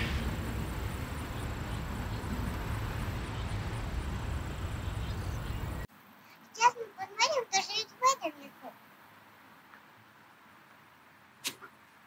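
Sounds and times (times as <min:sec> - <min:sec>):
low rumble of wind or traffic: 0:00.0 - 0:12.0.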